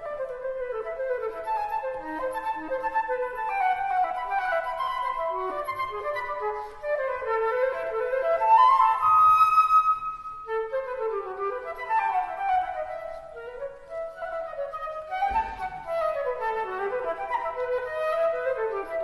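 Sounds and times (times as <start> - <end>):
flute melody: 0.0 - 19.0.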